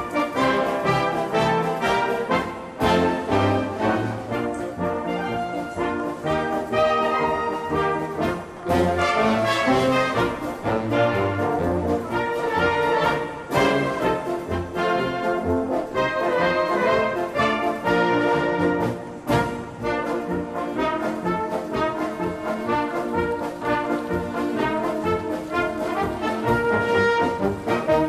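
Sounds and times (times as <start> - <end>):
brass instruments playing: 0.0 - 28.0.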